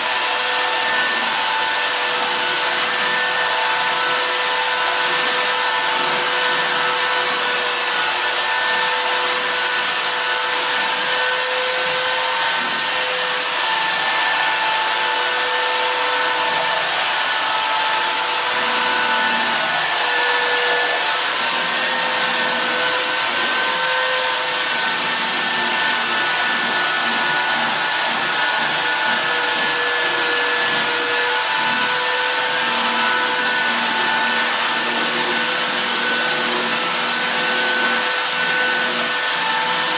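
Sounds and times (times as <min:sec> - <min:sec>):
electric sander on wooden floor: 0:00.0 - 0:39.9.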